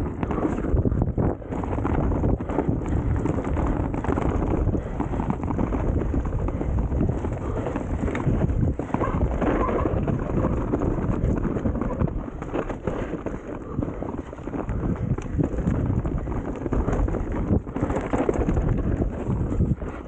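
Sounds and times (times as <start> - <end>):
mountain bike rattling over bumps: 0.0 - 20.0.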